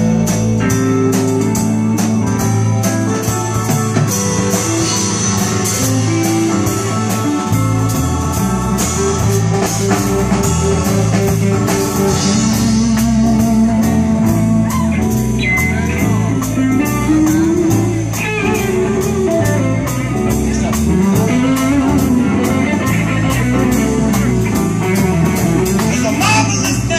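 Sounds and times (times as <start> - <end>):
bass guitar: 0.0 - 26.9
drum kit with cymbal strokes: 0.0 - 26.9
electric guitar: 0.0 - 26.9
electric keyboard: 0.0 - 26.9.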